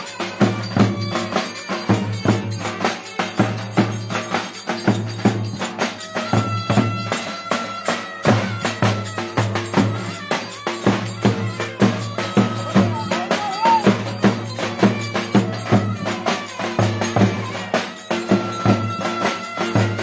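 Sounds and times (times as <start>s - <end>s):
folk melody instrument: 0.0s - 20.0s
percussive beat: 0.0s - 20.0s.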